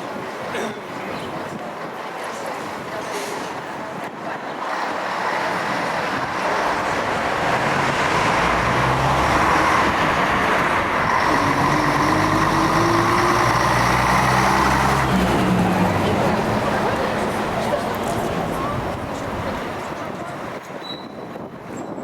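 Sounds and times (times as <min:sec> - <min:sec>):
bus engine under load: 0:02.7 - 0:20.8.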